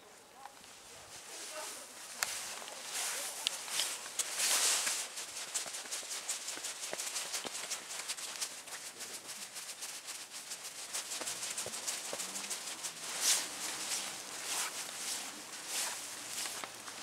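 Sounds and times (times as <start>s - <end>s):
sped-up footsteps on stone steps: 1.8s - 17.0s.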